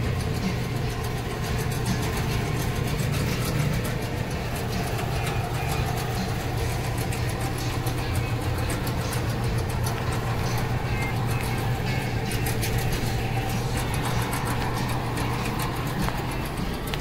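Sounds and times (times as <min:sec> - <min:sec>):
engine idling: 0:00.0 - 0:17.0
light rapid ticking: 0:00.0 - 0:17.0.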